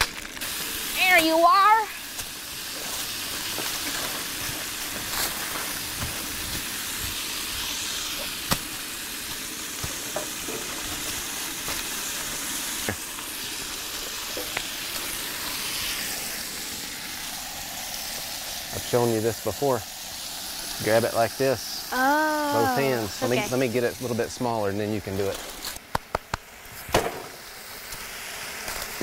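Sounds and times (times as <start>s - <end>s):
meat and peppers sizzling in a pan: 0.0s - 29.0s.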